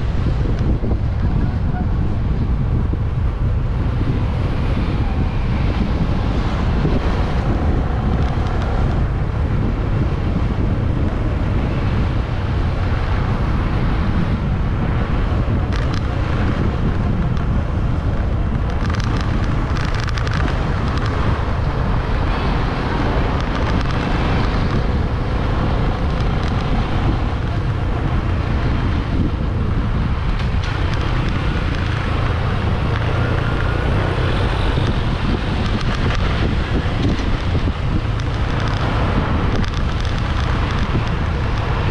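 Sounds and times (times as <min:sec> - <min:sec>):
motorbike engine and tyre noise: 0:00.0 - 0:41.9
wind rushing over microphone: 0:00.0 - 0:41.9.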